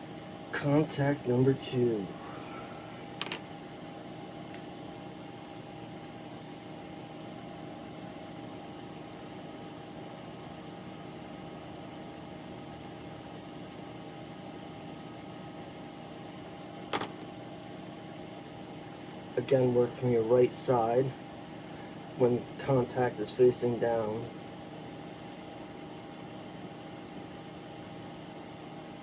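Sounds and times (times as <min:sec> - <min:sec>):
electric fan humming: 0:00.0 - 0:29.0.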